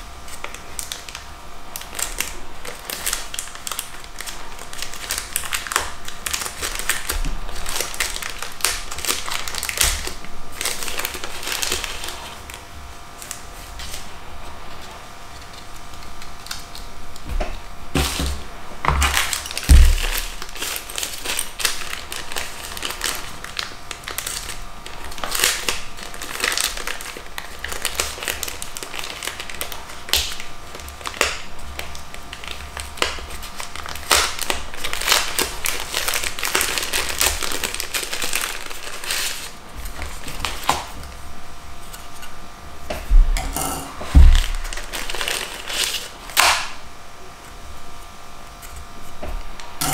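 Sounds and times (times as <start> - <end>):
plastic wrapping crinkling: 0.0 - 41.2, 43.6 - 46.8.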